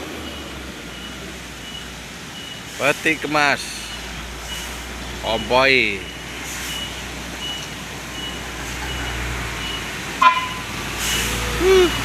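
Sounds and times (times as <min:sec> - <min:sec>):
heavy truck traffic: 0:00.0 - 0:12.0.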